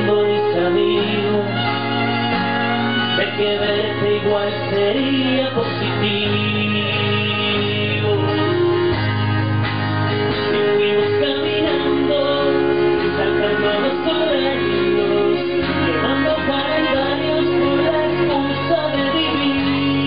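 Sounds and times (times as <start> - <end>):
acoustic guitar strumming: 0.0 - 20.0
violin melody: 0.0 - 20.0.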